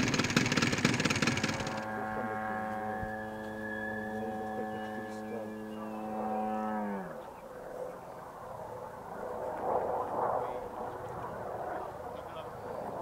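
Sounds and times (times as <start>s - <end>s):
electric motor and propeller whirring: 0.0s - 13.0s.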